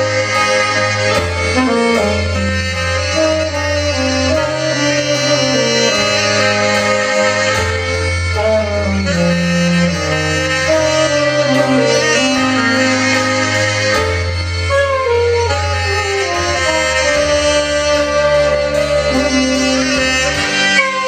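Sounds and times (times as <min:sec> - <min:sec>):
alto saxophone melody: 0:00.0 - 0:21.0
backing track with bass notes: 0:00.0 - 0:21.0.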